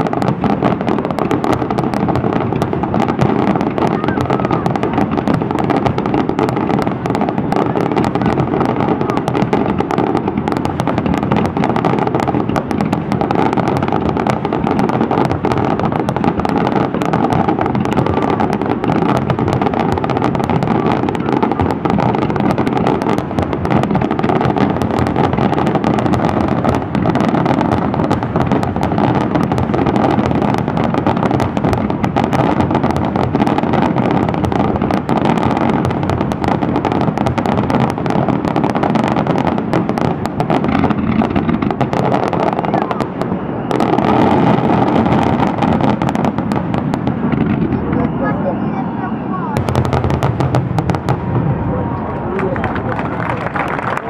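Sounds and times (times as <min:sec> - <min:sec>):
fireworks barrage: 0:00.0 - 0:54.0.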